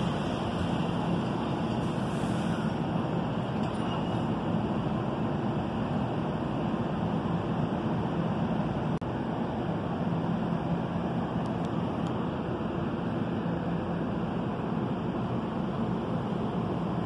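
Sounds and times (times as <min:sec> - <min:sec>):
train humming at platform: 0:00.0 - 0:17.0.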